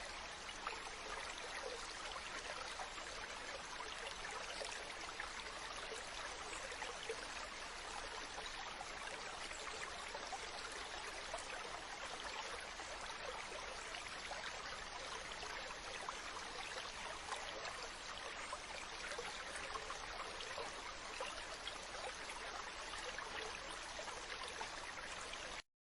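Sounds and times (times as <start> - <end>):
running water trickling: 0.0 - 25.6.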